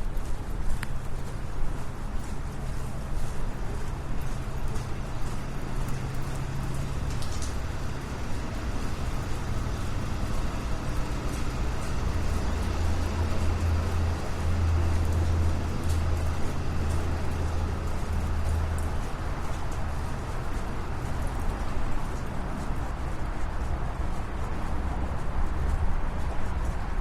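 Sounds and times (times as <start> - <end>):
faint footsteps: 0.0 - 27.0
road noise: 0.0 - 27.0
vehicle engine rumble: 0.0 - 27.0.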